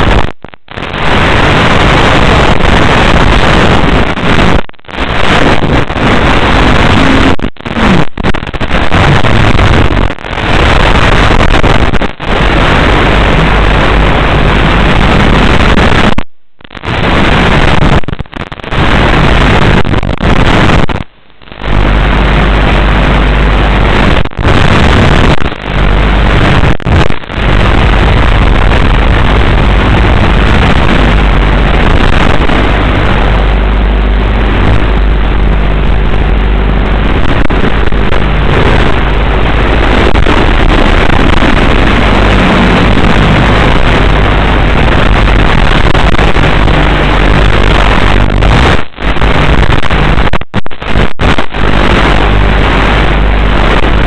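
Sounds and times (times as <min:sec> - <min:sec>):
loud hiss and static: 0:00.0 - 0:54.0.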